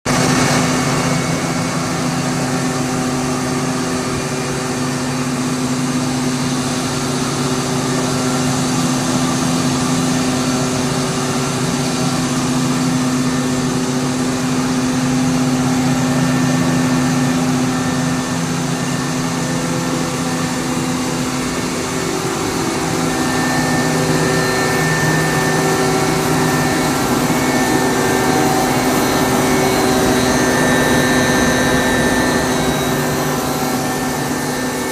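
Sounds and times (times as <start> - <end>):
air compressor running: 0.1 - 34.9.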